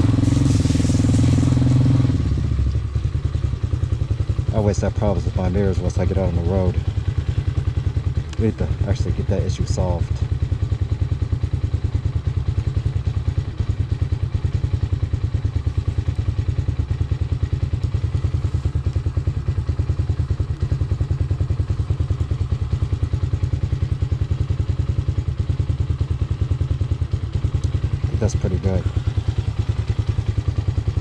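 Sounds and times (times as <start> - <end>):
motorcycle engine running steadily: 0.0 - 31.0.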